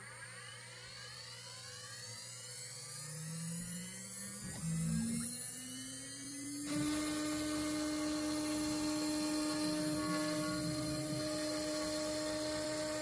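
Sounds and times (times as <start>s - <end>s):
router spindle whining: 0.0s - 13.0s.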